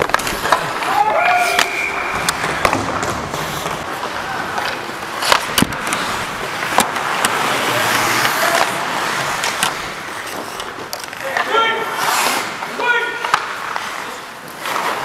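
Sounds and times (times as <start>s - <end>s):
skates scraping over ice: 0.0s - 15.0s.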